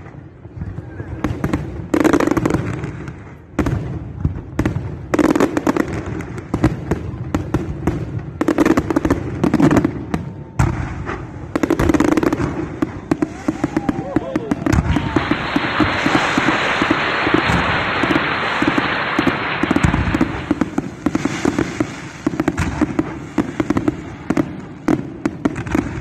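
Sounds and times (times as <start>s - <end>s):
fireworks crackling pops: 0.0s - 26.0s.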